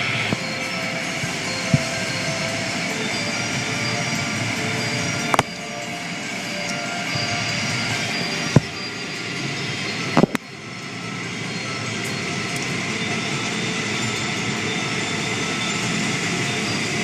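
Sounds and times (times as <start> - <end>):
car wash machinery rushing: 0.0 - 17.0.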